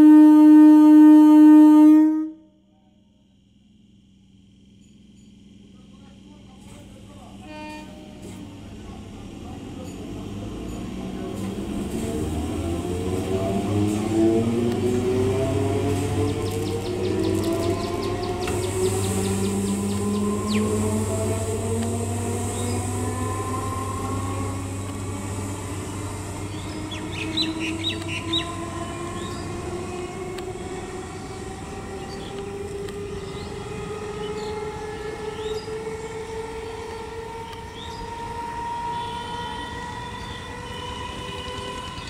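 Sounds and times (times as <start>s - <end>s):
electric train motors whining: 3.3s - 42.0s.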